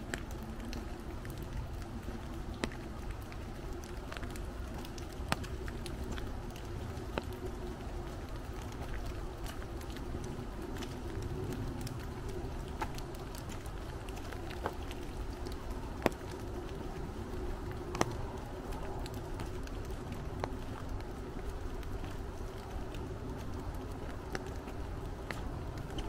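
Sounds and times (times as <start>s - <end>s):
light rain patter: 0.0s - 26.0s
raindrop tapping on umbrella: 0.0s - 26.0s.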